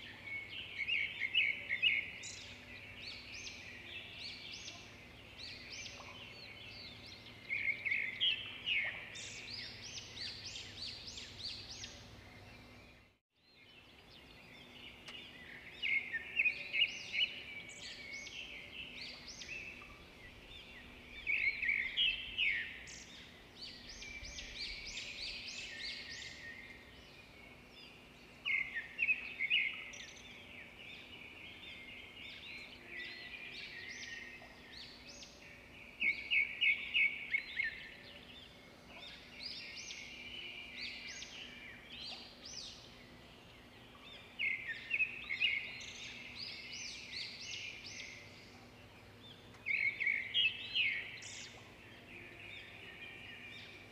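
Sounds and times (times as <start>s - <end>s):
songbird chirping and trilling: 0.0s - 53.9s.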